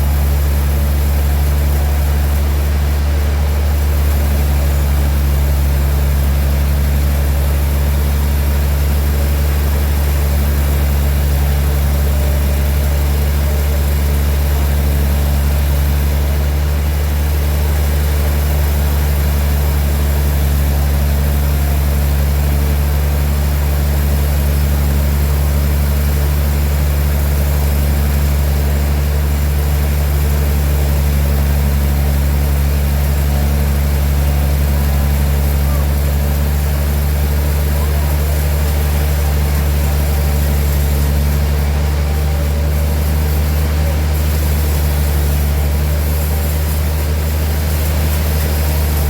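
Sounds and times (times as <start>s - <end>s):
sawmill machinery drone: 0.0s - 49.0s.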